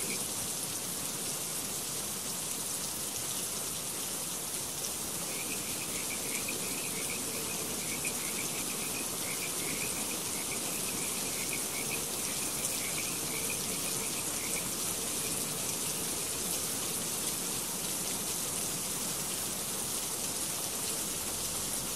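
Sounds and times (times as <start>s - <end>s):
water running and splashing: 0.0s - 21.9s.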